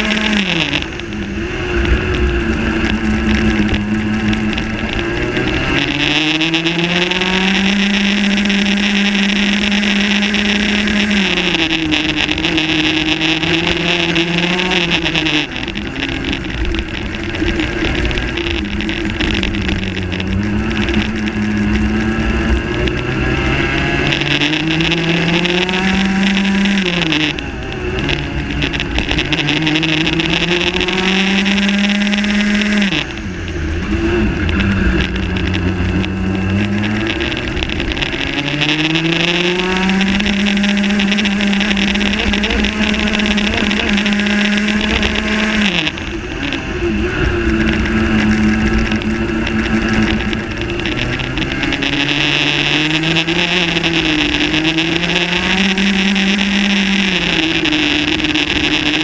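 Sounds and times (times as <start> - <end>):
kart engine at full throttle: 0.0 - 59.0.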